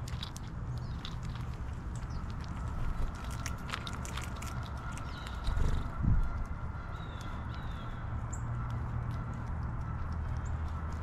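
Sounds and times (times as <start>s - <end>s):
birds pecking small clicks: 0.0s - 11.0s.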